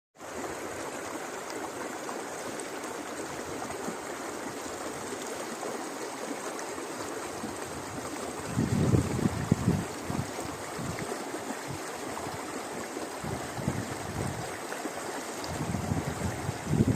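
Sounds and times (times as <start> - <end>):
river water rushing: 0.2 - 16.9.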